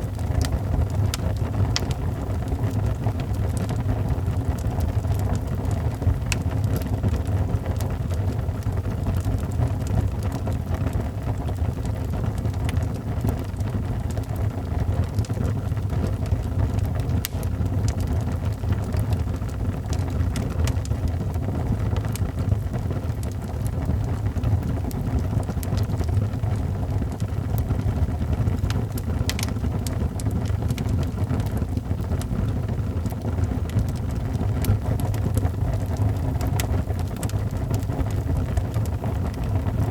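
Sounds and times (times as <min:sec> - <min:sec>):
fire crackles and pops: 0:00.0 - 0:39.9
fire flames roaring: 0:00.0 - 0:39.9.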